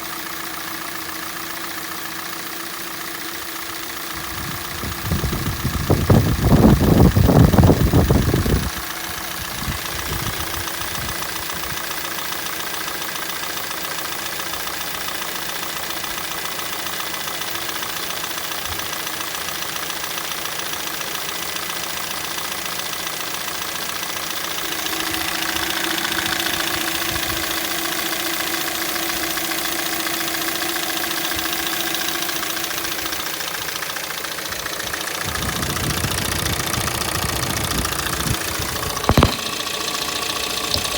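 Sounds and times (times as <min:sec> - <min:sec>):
car engine idling: 0:00.0 - 0:40.9
engine knock: 0:00.0 - 0:40.9.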